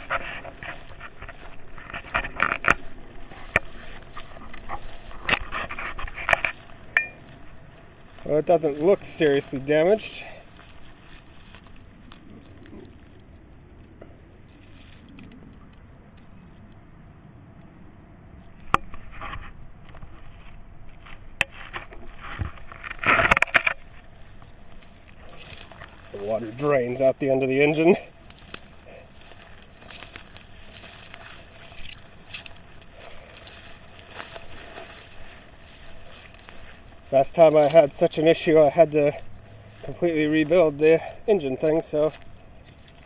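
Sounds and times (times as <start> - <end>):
footsteps through dry grass: 0.0 - 43.0
stalks crackling underfoot: 0.0 - 43.0.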